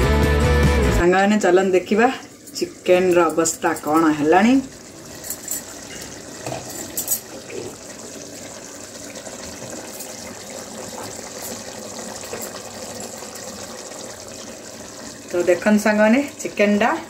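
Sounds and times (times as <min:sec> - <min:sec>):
food sizzling in a pan: 0:01.2 - 0:17.0.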